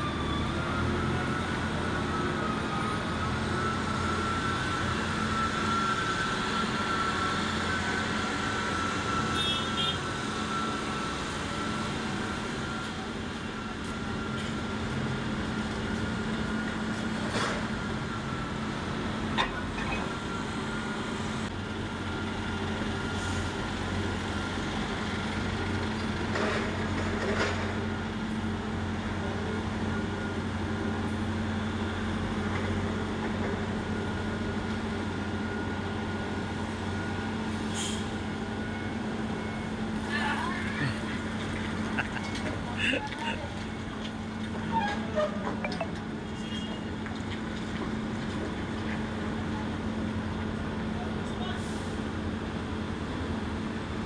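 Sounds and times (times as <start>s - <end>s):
forklift engine drone: 0.0s - 46.4s.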